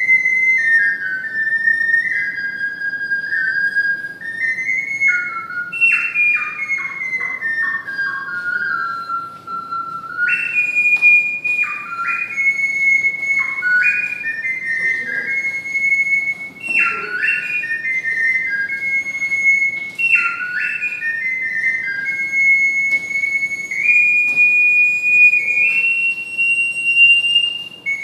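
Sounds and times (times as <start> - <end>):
ocarina playing slow melody: 0.0 - 28.0.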